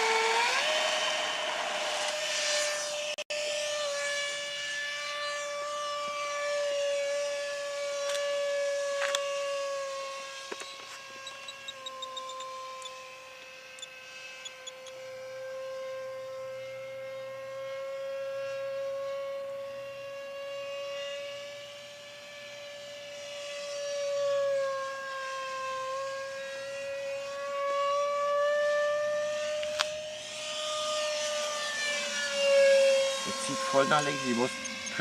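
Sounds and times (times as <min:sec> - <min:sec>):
model jet fan whine: 0:00.0 - 0:35.0.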